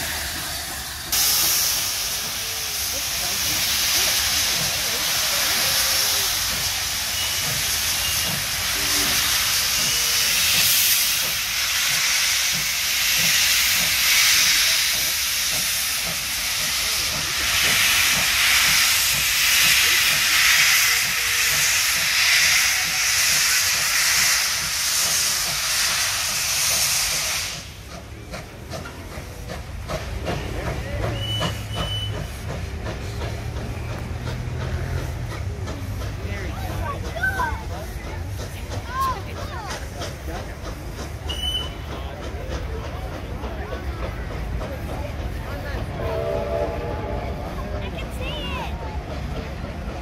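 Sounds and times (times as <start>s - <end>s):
loud hiss of escaping steam: 0.0s - 50.0s
steam locomotive exhaust beats: 0.0s - 50.0s.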